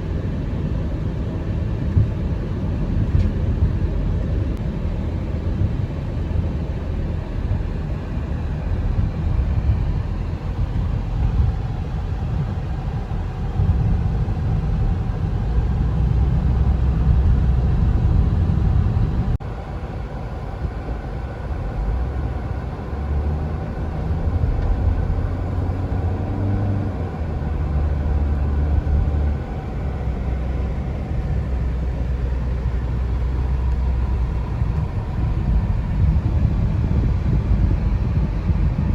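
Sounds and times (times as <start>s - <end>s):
road and engine noise inside car: 0.0s - 38.9s.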